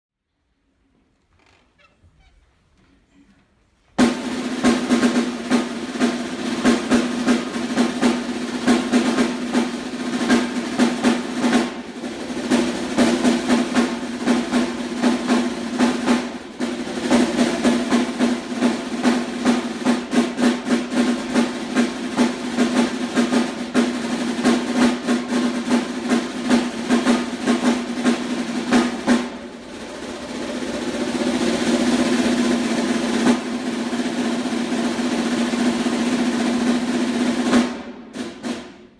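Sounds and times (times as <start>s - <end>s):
snare drum playing: 4.0s - 38.9s
snare drum roll: 4.0s - 38.9s.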